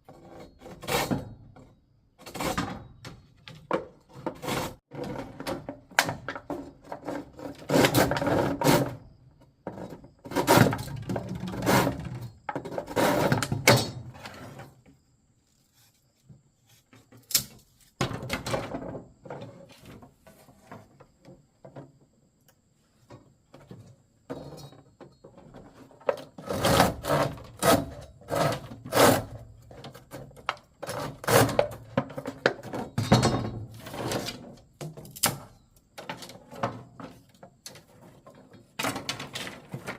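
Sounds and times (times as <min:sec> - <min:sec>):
wooden knocks and scraping: 0:00.0 - 0:22.2, 0:22.9 - 0:39.9.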